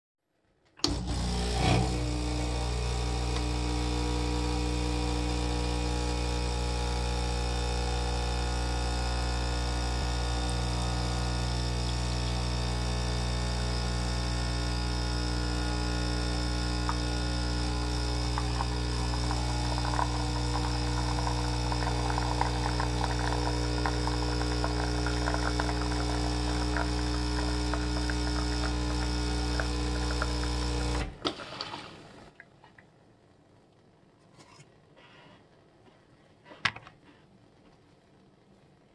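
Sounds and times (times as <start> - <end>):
espresso machine pump humming: 0.8 - 32.3.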